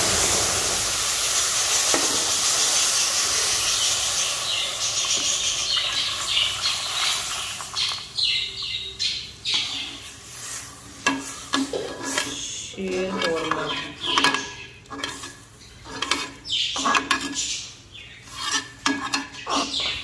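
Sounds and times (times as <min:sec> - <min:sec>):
milk sizzling in hot fat: 0:00.0 - 0:20.0.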